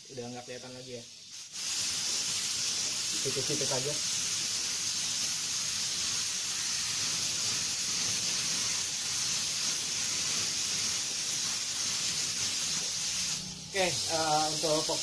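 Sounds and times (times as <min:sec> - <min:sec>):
spray gun hissing: 0:00.0 - 0:15.0.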